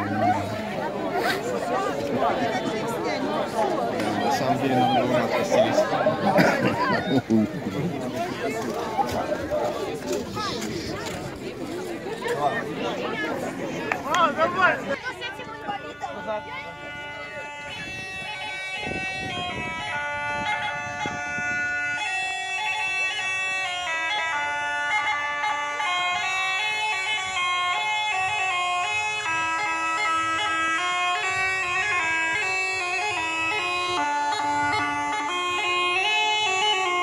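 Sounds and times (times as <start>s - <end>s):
bagpipe-like drone and melody: 0.0s - 7.4s, 14.1s - 37.0s.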